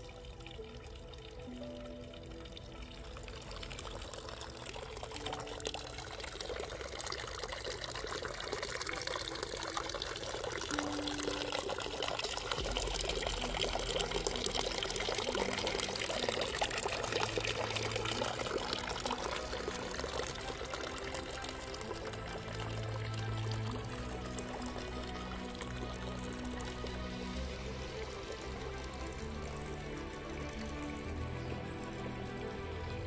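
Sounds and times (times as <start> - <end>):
water splashing and pouring: 0.0 - 33.0.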